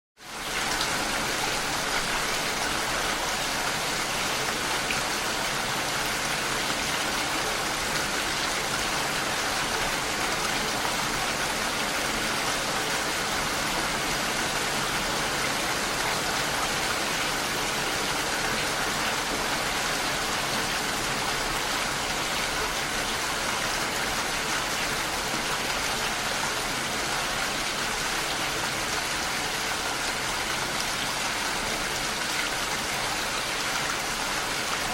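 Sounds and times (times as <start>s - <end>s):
steady rain falling: 0.2s - 34.9s.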